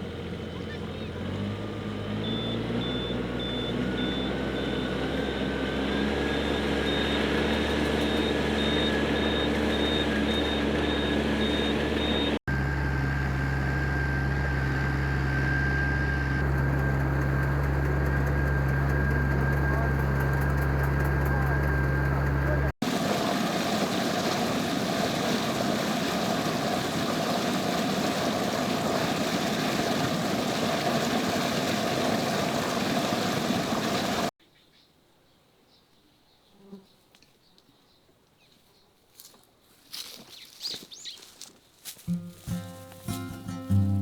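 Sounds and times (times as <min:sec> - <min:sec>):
vehicle engine running: 0:00.0 - 0:34.3, 0:42.1 - 0:44.0.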